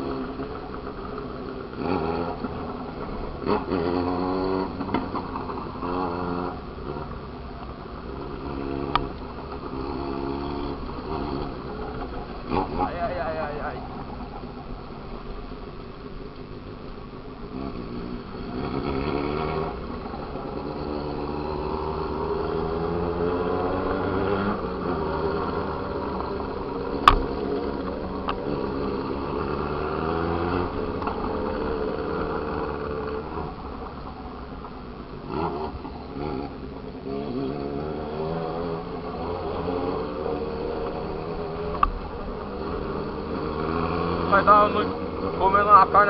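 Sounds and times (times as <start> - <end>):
motorcycle engine accelerating: 0.0 - 46.0
road and wind noise: 0.0 - 46.0.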